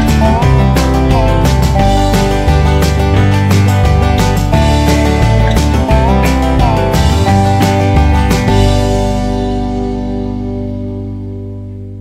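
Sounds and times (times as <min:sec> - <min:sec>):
held music chord: 0:00.0 - 0:12.0.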